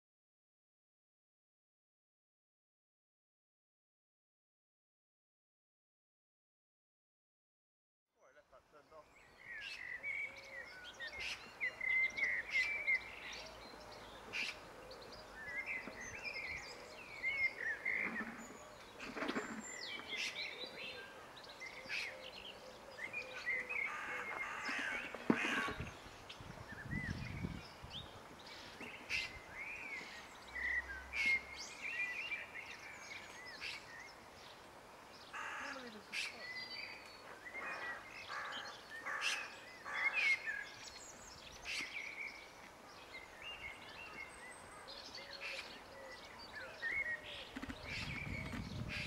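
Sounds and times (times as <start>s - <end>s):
birds chirping: 8.2s - 49.0s.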